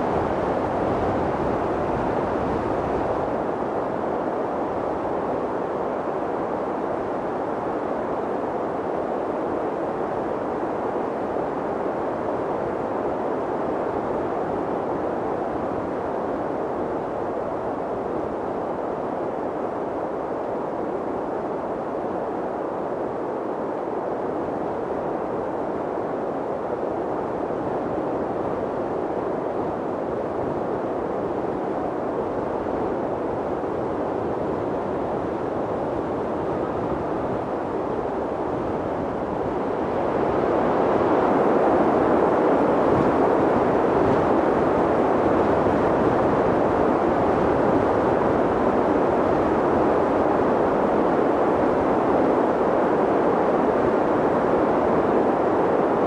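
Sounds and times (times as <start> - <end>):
strong wind rushing: 0.0 - 56.0.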